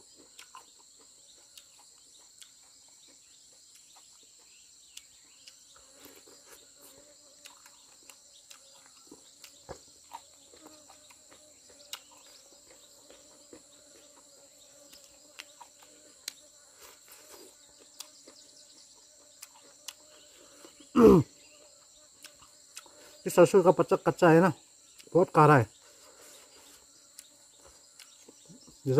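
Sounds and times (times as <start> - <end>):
small eating clicks: 0.0 - 20.9, 21.5 - 25.8, 26.8 - 28.9
crickets and insects chirping: 0.0 - 28.9.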